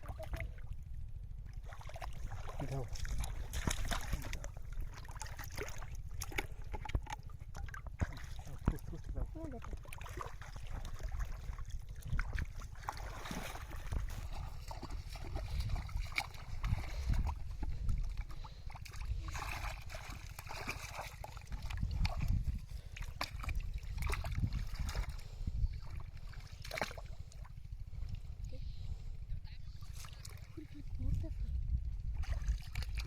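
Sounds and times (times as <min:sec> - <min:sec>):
water sloshing and splashing: 0:00.0 - 0:29.1, 0:29.7 - 0:31.4, 0:32.0 - 0:33.0
steady low rumble: 0:00.0 - 0:33.0.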